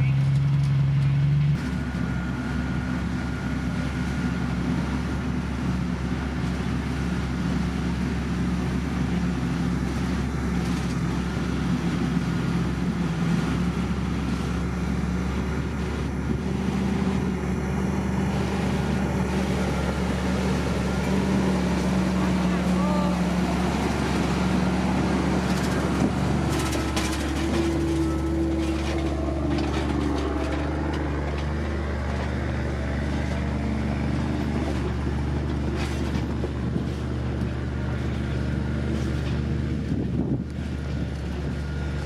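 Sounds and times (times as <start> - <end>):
diesel engine running steadily: 0.0 - 42.0.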